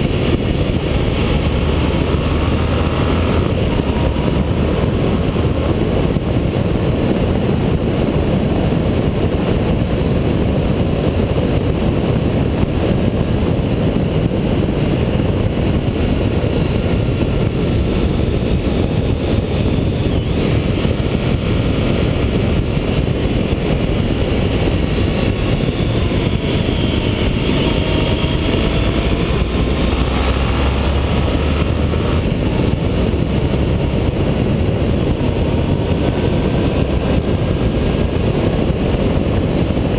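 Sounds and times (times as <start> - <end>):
motorcycle engine droning: 0.0 - 39.9
wind and road noise: 0.0 - 39.9.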